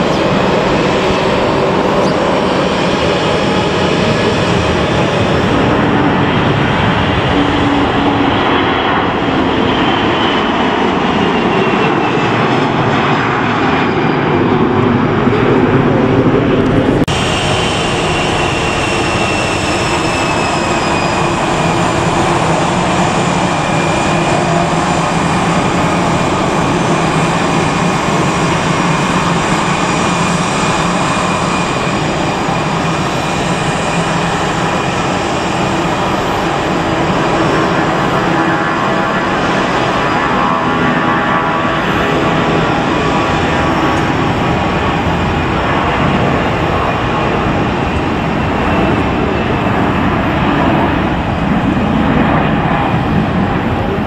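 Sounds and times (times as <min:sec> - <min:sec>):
jet engines with whine: 0:00.0 - 0:54.0.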